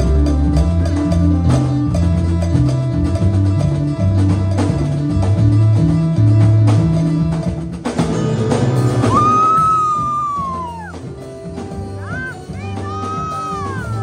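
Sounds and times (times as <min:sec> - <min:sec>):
congas: 0:00.0 - 0:14.0
drum kit: 0:00.0 - 0:14.0
electric bass guitar: 0:00.0 - 0:14.0.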